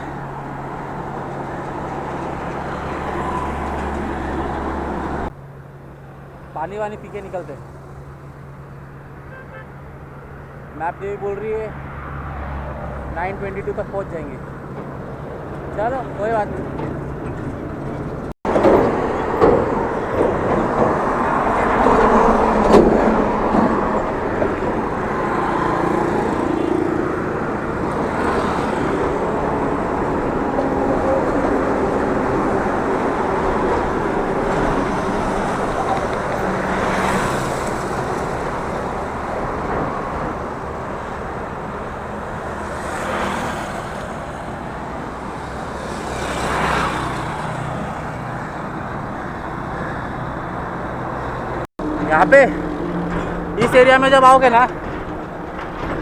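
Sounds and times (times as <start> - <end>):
road traffic: 0.0 - 56.0
vehicles passing: 0.0 - 56.0.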